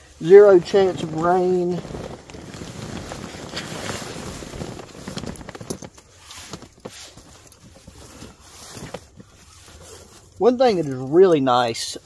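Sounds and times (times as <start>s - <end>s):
fabric rustling: 0.0s - 11.1s.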